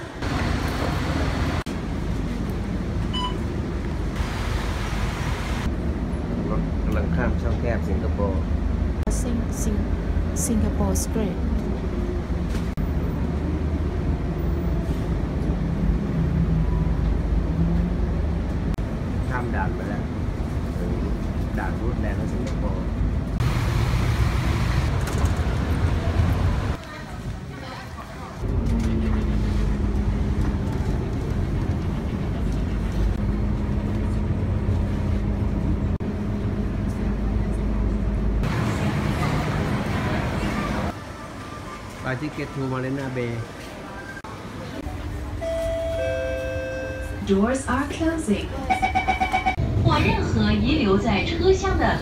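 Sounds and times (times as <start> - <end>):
bus engine and tyres rumbling: 0.0 - 52.0.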